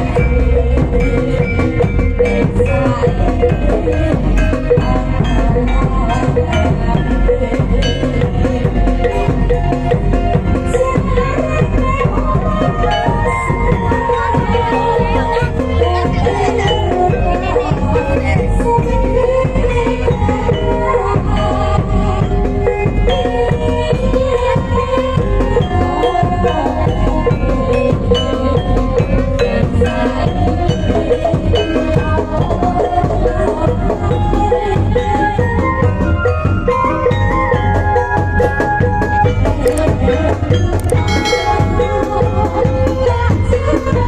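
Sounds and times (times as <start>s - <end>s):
held melody line: 0.0s - 44.0s
steady drum percussion: 0.0s - 44.0s.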